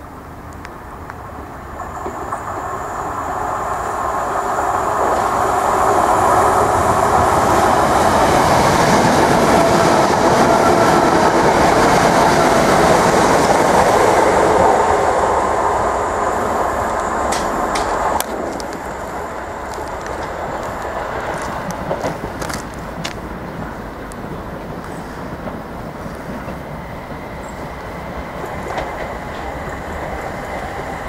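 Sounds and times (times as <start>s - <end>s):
train wheels clattering on track: 1.8s - 15.6s, 16.8s - 31.0s.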